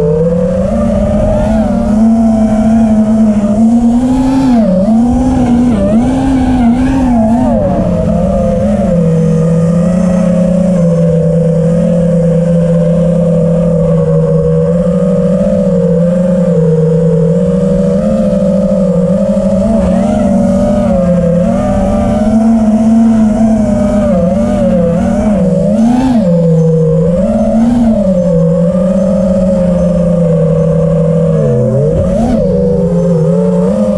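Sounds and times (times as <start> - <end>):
drone motors whining: 0.0 - 33.9.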